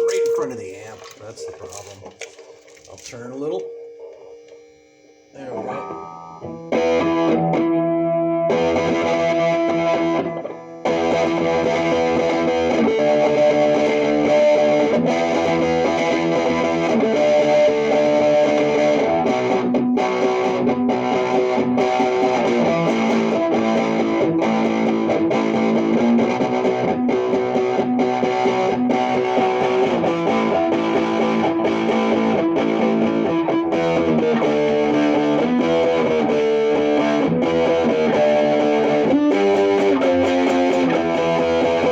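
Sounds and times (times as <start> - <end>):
fuzzed electric guitar chords: 0.0 - 41.9.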